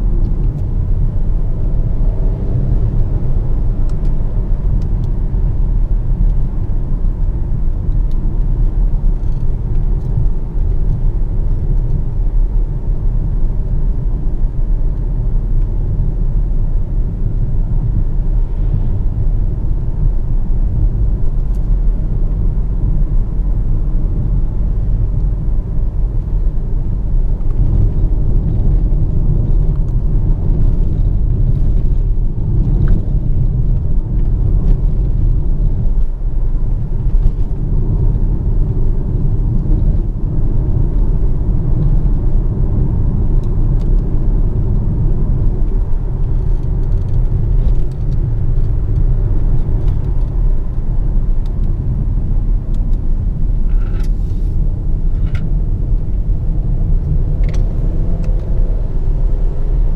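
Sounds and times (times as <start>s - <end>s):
car engine rumble: 0.0s - 59.9s
road and tyre noise: 0.0s - 59.9s.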